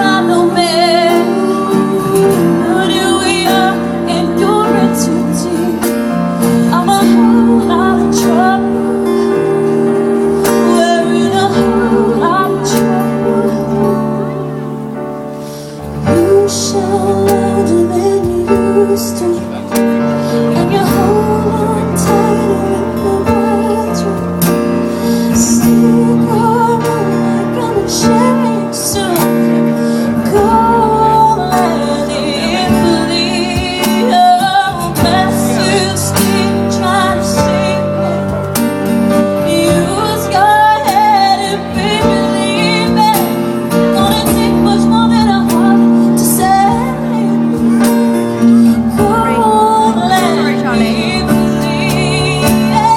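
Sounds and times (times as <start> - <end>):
instrumental backing music: 0.0 - 52.9
woman singing pop ballad: 0.0 - 52.9.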